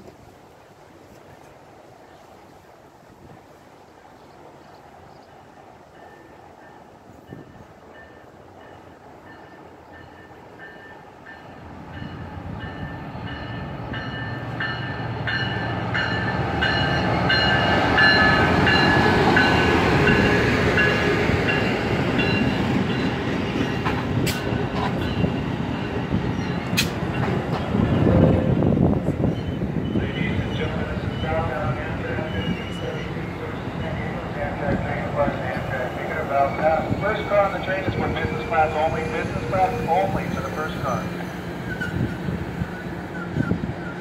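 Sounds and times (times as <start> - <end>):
passenger train rumble and wheel clatter: 0.0 - 44.0.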